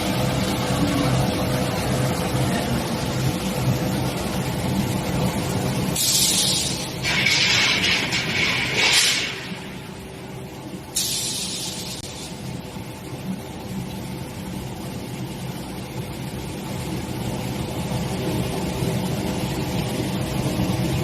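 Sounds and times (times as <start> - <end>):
industrial machinery humming: 0.0 - 21.0.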